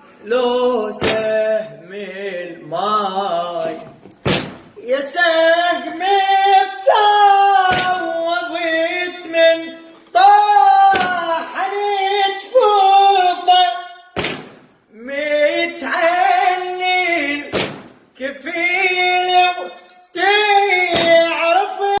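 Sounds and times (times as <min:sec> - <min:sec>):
person chanting a lament: 0:00.0 - 0:04.0, 0:04.8 - 0:14.2, 0:14.9 - 0:22.0.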